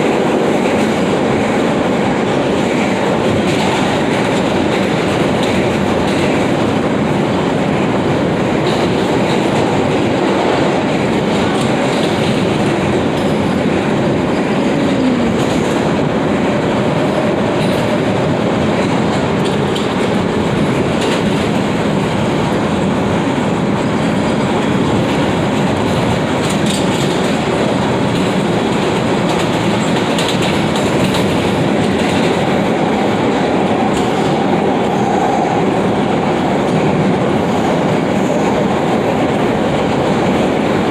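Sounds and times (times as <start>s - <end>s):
subway train rumbling: 0.0s - 40.9s
wheels clacking over rails: 0.0s - 40.9s.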